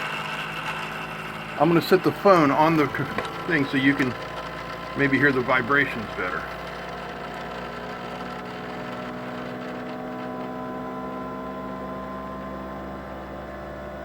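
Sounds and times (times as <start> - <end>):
stepper motors buzzing hum: 0.0 - 14.0.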